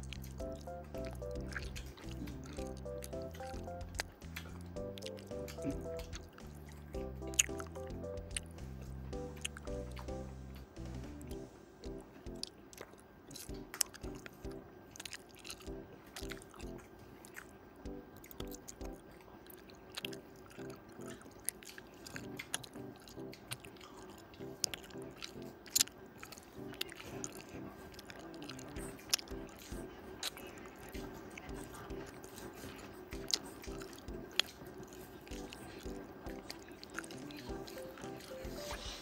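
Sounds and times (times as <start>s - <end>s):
mouth clicks and smacks: 0.0s - 10.2s, 12.3s - 38.7s
close chewing food: 0.0s - 39.0s
faint background music: 0.0s - 39.0s.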